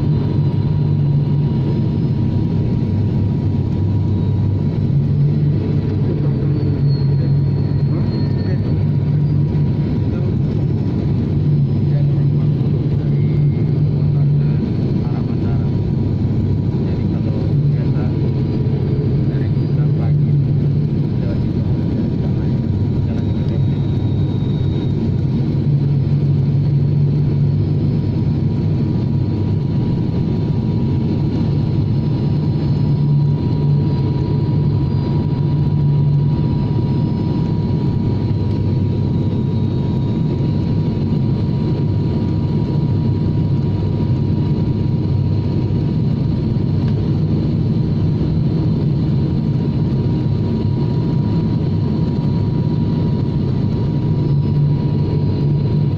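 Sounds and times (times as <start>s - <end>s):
propeller engine drone: 0.0s - 55.9s
thin constant whine: 0.0s - 55.9s.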